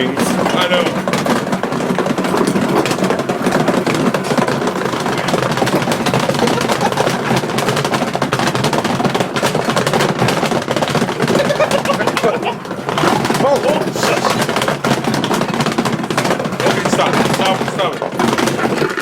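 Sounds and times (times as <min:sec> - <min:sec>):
washing machine rattling: 0:00.0 - 0:19.0.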